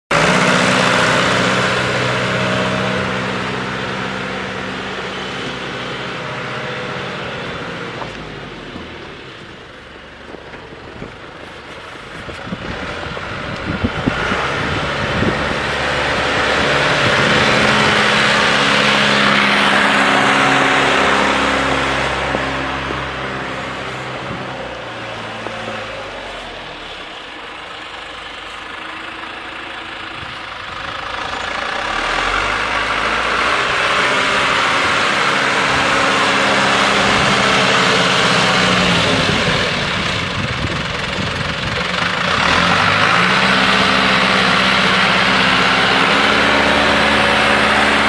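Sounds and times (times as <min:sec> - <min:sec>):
tractor engine running: 0:00.1 - 0:48.0.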